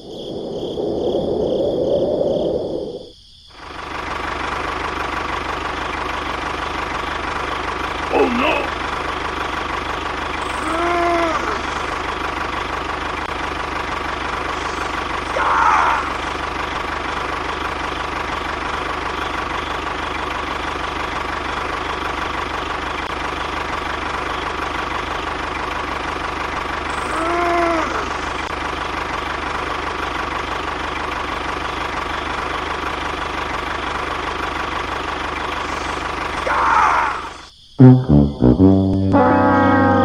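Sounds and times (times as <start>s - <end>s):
engine running steadily: 3.5s - 37.0s.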